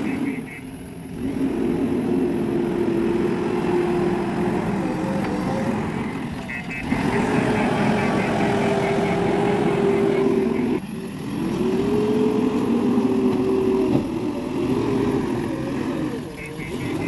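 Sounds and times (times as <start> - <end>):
diesel engine running hard: 0.0 - 17.0.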